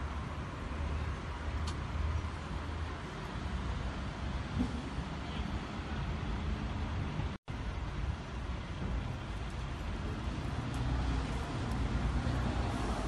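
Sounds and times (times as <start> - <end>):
street traffic hum: 0.0 - 13.0.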